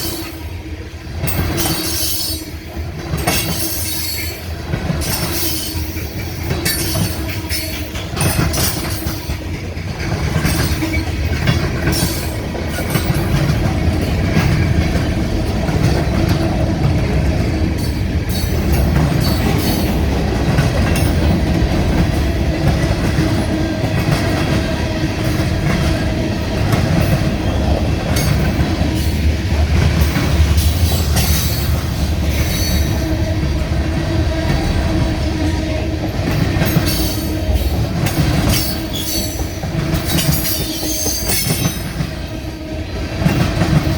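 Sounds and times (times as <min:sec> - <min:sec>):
freight train rumbling: 0:00.0 - 0:43.9
wheels clicking over rail joints: 0:01.2 - 0:35.3, 0:36.0 - 0:42.4.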